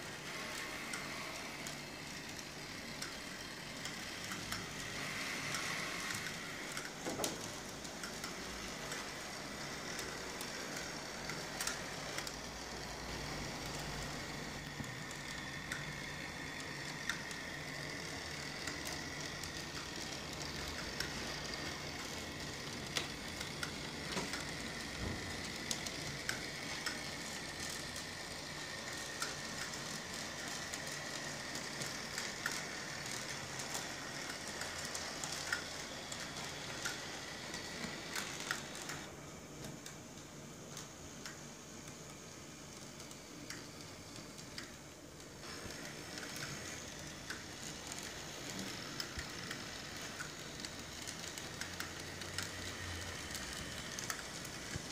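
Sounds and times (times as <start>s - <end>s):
wheels clicking on track: 0.0s - 39.1s, 39.7s - 54.9s
small motor whine: 0.0s - 39.9s, 40.7s - 54.9s.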